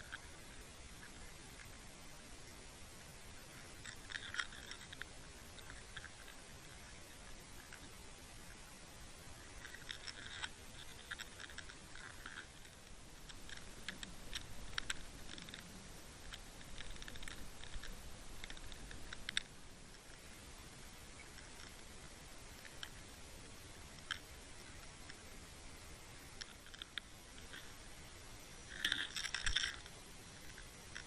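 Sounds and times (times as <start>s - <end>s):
light clicks and ticks: 0.0s - 8.8s, 9.4s - 31.0s
faint low rumble: 0.0s - 31.0s.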